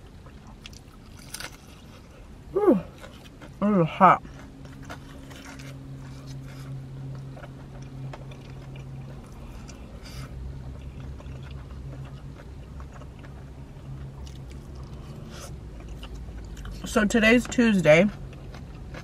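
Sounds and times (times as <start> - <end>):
person chewing: 0.0 - 3.6, 4.2 - 16.9, 18.1 - 19.0
low hum inside car: 0.0 - 19.0.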